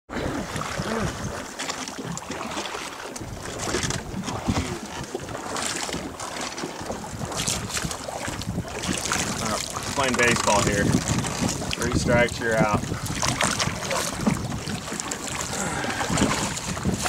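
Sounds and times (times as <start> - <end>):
river water lapping: 0.1 - 17.0
wind buffeting microphone: 3.1 - 17.0.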